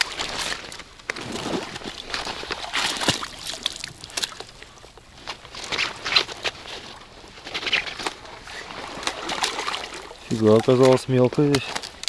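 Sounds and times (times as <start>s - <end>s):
water sloshing: 0.0s - 12.0s.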